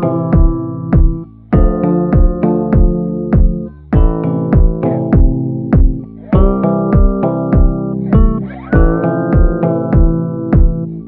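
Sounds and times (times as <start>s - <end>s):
kick-drum beat: 0.0s - 11.0s
sustained keyboard chords: 0.0s - 11.0s.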